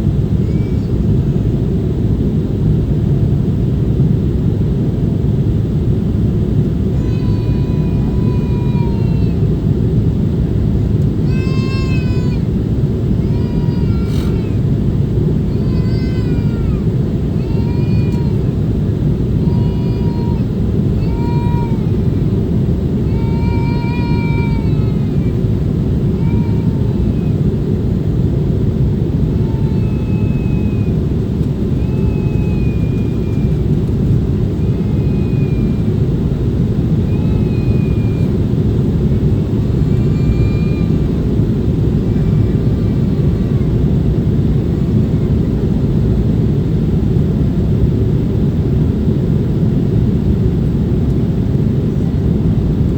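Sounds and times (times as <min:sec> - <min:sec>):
jet engines roaring in cabin: 0:00.0 - 0:52.9.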